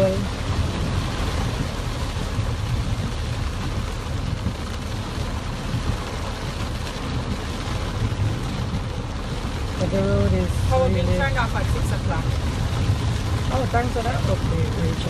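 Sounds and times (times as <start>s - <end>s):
car driving through floodwater: 0.0s - 15.0s
heavy rain on a car: 0.0s - 15.0s.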